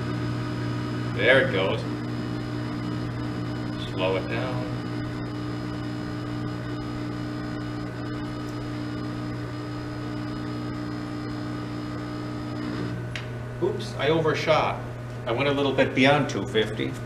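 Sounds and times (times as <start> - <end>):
testing machine electrical hum: 0.0 - 17.0.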